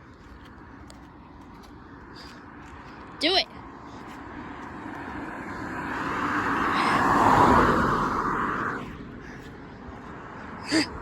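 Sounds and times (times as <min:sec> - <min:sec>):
vehicle passing by: 0:00.2 - 0:11.0.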